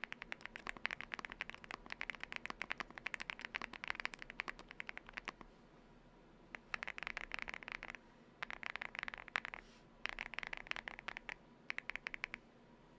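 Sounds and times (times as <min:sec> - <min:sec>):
mechanical keyboard typing: 0:00.0 - 0:05.4, 0:06.6 - 0:12.4.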